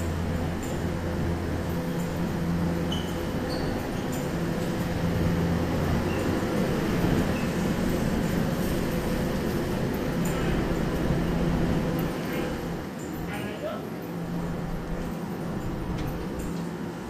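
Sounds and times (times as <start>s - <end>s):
stopped electric train humming: 0.0s - 17.0s.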